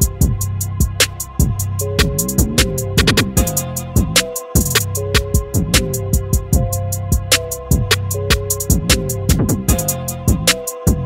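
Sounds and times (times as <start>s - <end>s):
hip-hop style beat: 0.0s - 11.0s.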